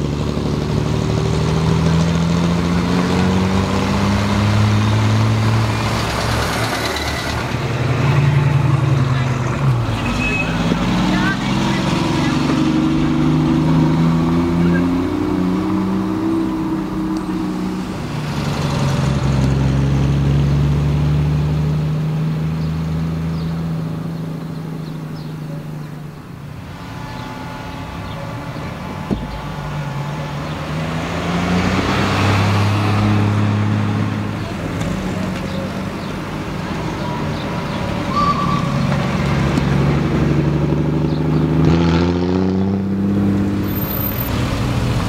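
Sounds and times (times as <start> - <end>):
cars driving past: 0.0 - 45.0.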